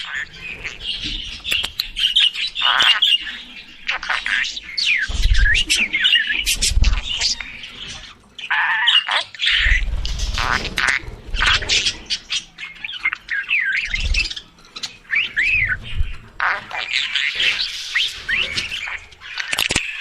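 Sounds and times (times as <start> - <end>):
budgerigar chirping and warbling: 0.0 - 20.0.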